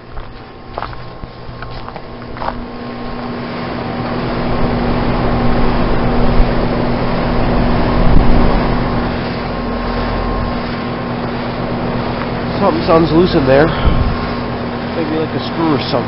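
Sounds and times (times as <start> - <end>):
compressor hum: 0.0 - 16.0
fan blowing air: 0.0 - 16.0.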